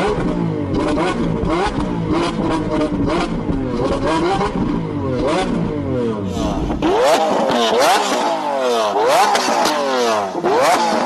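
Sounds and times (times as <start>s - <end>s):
exhaust cracks: 0.0s - 9.9s
car engine revving: 0.0s - 11.0s.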